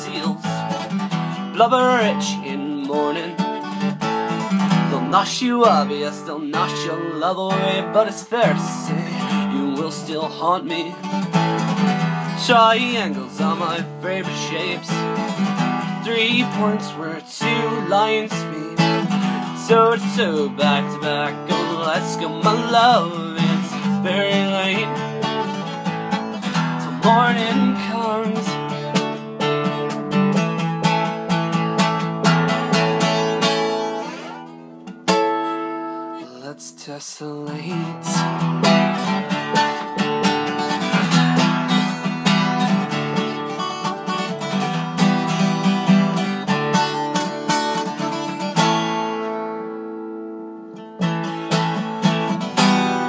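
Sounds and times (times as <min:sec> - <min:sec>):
guitar picked notes: 0:00.0 - 0:36.6, 0:37.4 - 0:53.0
acoustic guitar strumming: 0:00.0 - 0:53.0.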